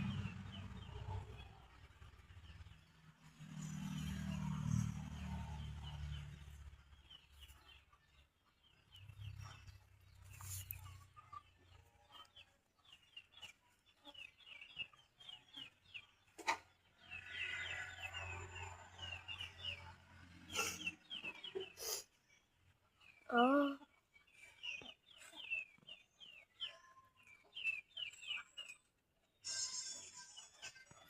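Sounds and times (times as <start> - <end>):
faint bird chirping: 5.3 - 31.0.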